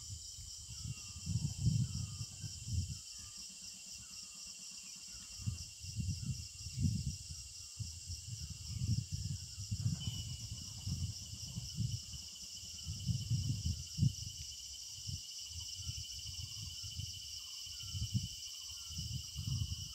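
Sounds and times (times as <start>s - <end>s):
wind buffeting microphone: 0.0s - 3.0s, 5.3s - 19.9s
insects trilling: 0.0s - 19.9s.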